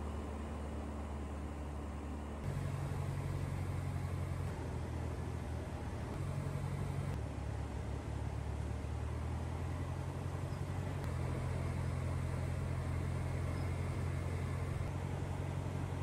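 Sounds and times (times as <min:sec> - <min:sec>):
light aircraft engine droning: 0:00.0 - 0:16.0.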